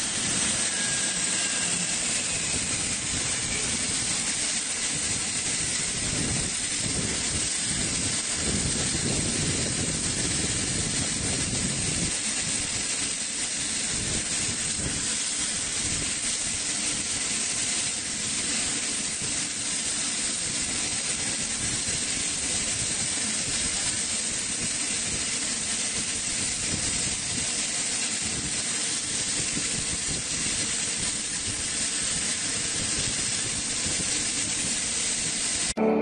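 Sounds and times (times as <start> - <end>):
aircraft turbine hiss: 0.0 - 35.8.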